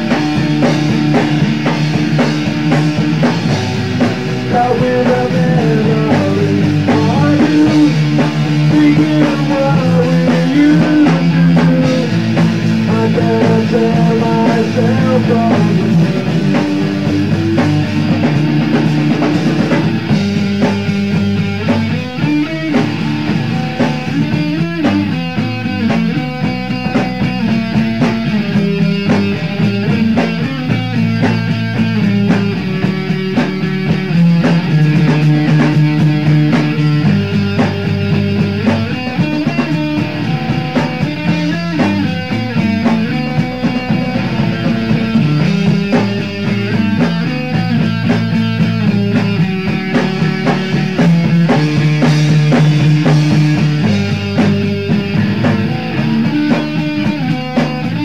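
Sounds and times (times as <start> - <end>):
bass: 0.0 - 58.0
drum kit: 0.0 - 58.0
guitar: 0.0 - 58.0.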